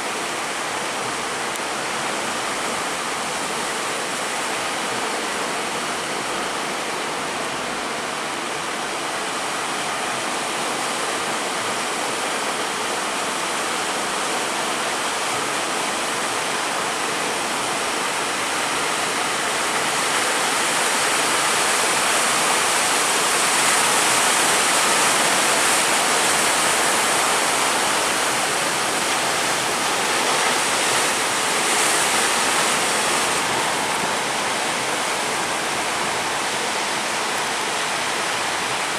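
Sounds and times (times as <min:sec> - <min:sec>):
rough sea water and surf: 0:00.0 - 0:38.9.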